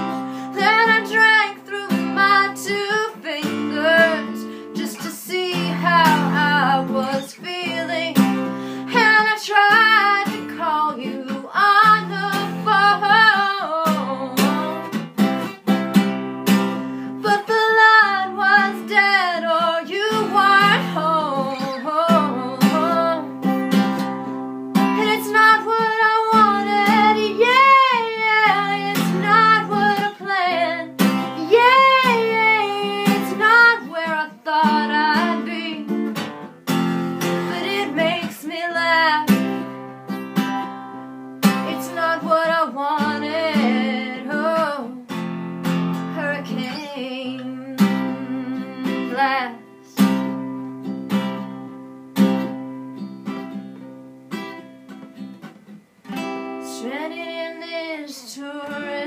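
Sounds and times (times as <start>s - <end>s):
woman singing with vibrato: 0.0s - 15.0s, 17.0s - 36.2s, 37.2s - 40.0s, 40.7s - 45.2s, 46.0s - 50.3s, 56.6s - 59.0s
strummed acoustic guitar: 0.0s - 59.0s.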